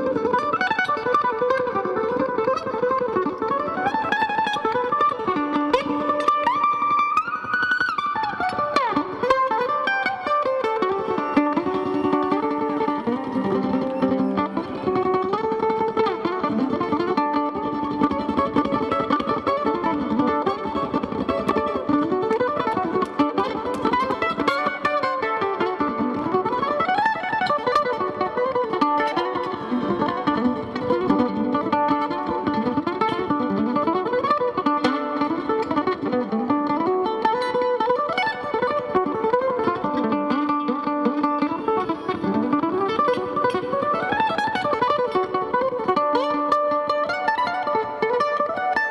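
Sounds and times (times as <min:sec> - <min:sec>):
mandolin solo: 0:00.0 - 0:48.9.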